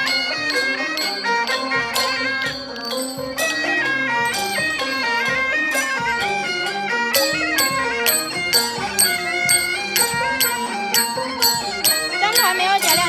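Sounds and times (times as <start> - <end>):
regular beat: 0.0 - 13.0
stepping melody line: 0.0 - 13.0.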